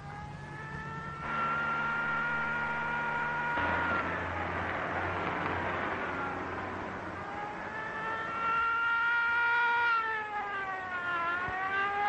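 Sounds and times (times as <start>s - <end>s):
car engines: 0.0s - 12.0s
police siren wailing: 0.0s - 12.0s.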